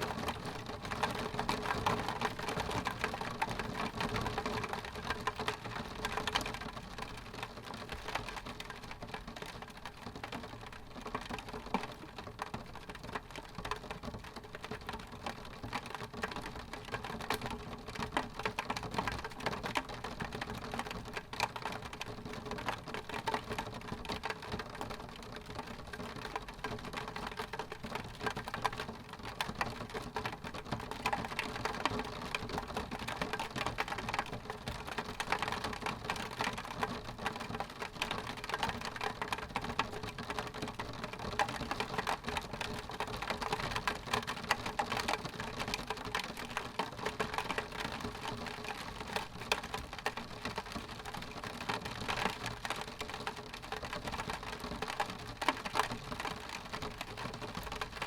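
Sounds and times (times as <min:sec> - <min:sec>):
rain pattering on window glass: 0:00.0 - 0:58.0.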